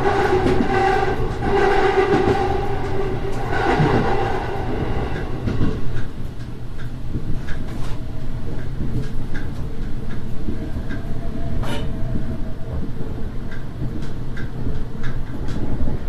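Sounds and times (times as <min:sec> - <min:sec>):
railcar engine and wheels rumbling: 0:00.0 - 0:16.0
wheels clicking over rails: 0:00.0 - 0:16.0.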